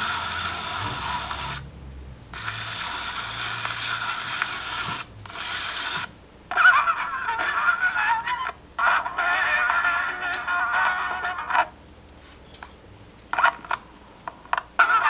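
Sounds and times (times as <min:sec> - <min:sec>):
scratchy hiss from vinyl record: 0:00.0 - 0:01.7, 0:02.4 - 0:15.0
faint record music: 0:00.0 - 0:15.0.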